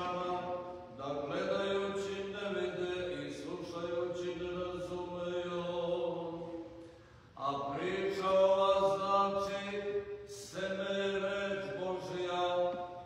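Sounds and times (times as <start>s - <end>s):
slow vocal chanting: 0.0s - 13.0s.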